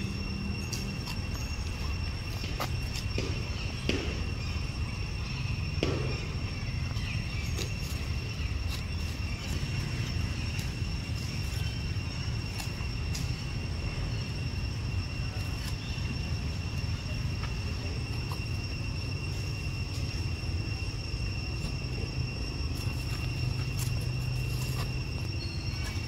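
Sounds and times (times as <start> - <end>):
constant low rumble: 0.0 - 26.0
insects droning: 0.0 - 26.0.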